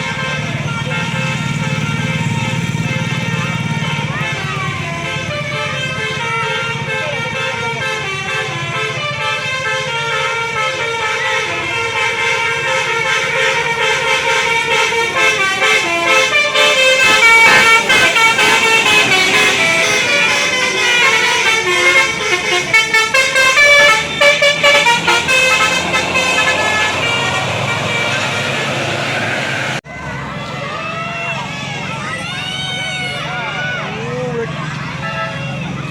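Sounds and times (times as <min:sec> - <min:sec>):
multi-tone air horns: 0:00.0 - 0:29.8, 0:33.0 - 0:35.9
bus engine running: 0:00.0 - 0:35.9.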